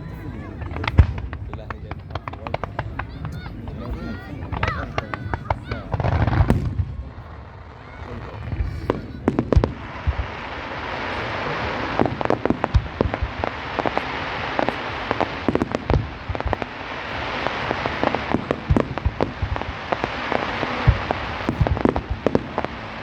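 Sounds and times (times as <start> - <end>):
fireworks bangs and pops: 0.0 - 23.0
fireworks crackling hiss: 0.0 - 23.0.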